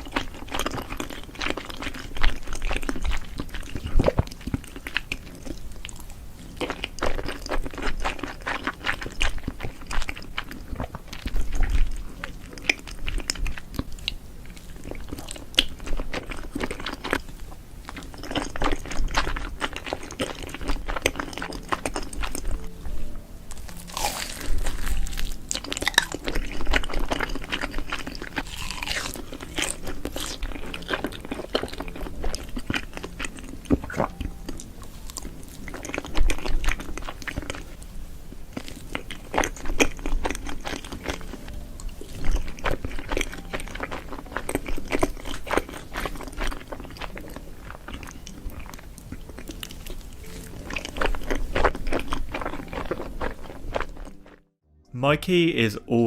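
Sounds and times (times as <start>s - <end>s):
crunchy bites and chewing: 0.0s - 22.8s, 23.5s - 37.7s, 38.5s - 54.4s
background music: 0.0s - 56.0s.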